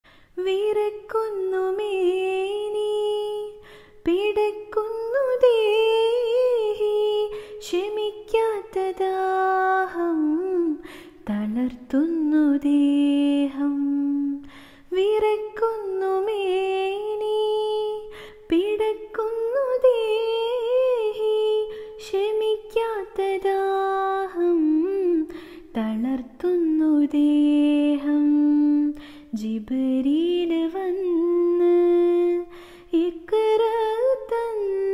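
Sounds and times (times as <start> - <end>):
woman singing unaccompanied: 0.4 - 34.9.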